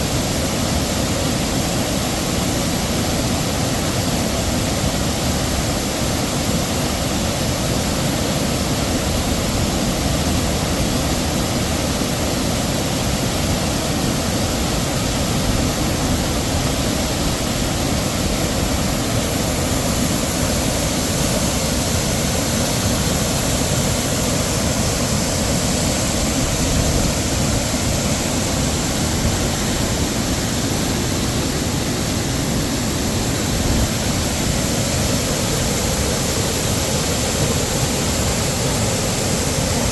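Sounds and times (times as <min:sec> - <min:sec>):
heavy waterfall rushing: 0:00.0 - 0:39.9.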